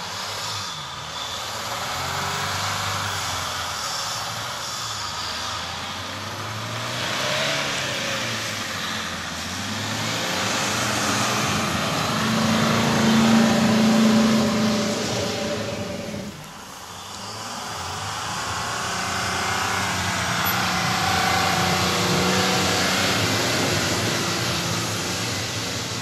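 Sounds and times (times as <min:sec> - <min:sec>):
suv engines revving: 0:00.0 - 0:26.0.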